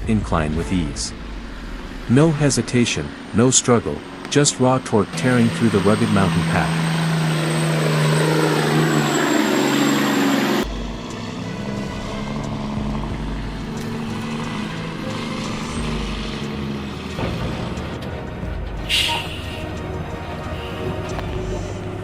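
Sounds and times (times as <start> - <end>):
diesel truck engines pulling uphill: 0.0 - 22.0.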